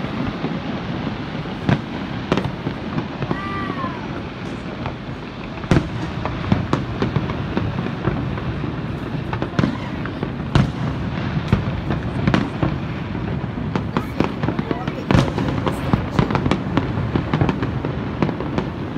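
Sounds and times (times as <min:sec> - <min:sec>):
fireworks crackling: 0:00.0 - 0:18.9.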